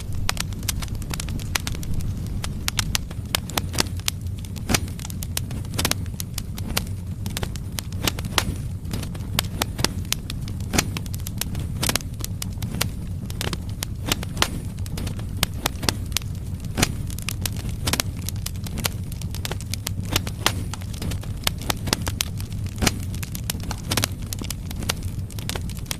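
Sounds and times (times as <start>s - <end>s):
fire crackling and popping: 0.0s - 25.9s
low rumble of fire: 0.0s - 25.9s.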